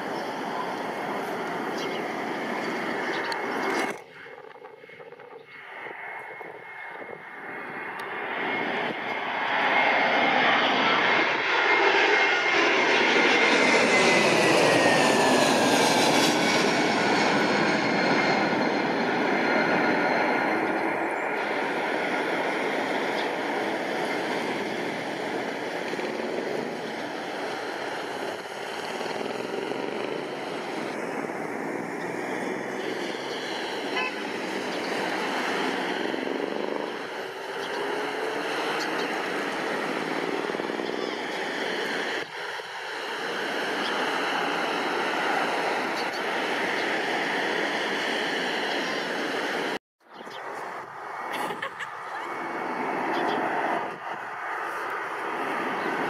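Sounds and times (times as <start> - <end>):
approaching jet engine noise: 0.0 - 56.0
jet airliner passing overhead: 0.0 - 56.0.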